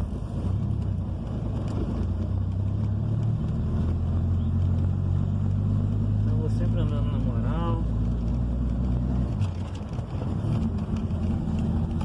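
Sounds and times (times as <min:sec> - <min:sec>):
car engine running inside cabin: 0:00.0 - 0:12.0.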